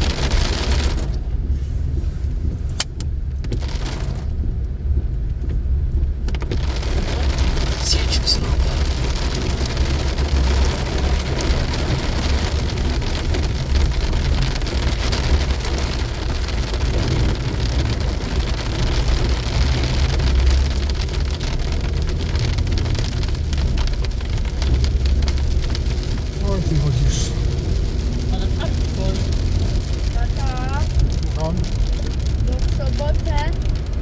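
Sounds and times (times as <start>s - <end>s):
heavy rain pelting car: 0.0s - 34.0s
road and engine rumble: 0.0s - 34.0s.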